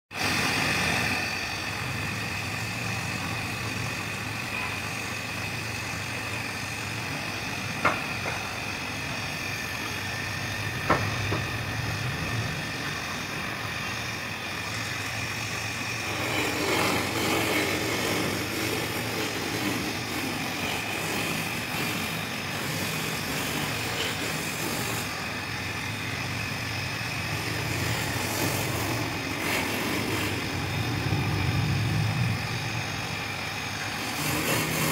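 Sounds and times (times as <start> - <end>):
lathe motor whining: 0.2 - 34.9.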